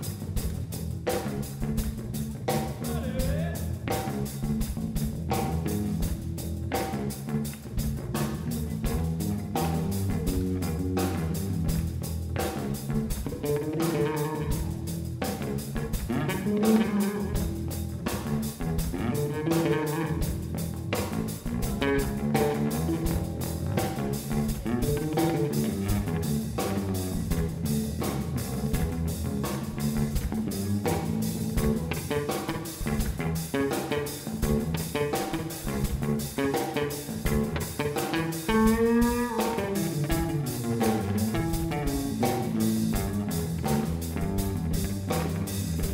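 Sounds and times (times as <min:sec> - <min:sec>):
bass guitar: 0:00.0 - 0:45.9
drum kit: 0:00.0 - 0:45.9
electric guitar: 0:00.0 - 0:45.9.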